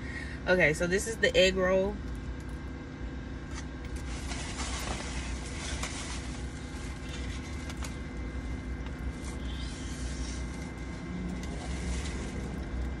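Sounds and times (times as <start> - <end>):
car idling hum: 0.0 - 13.0.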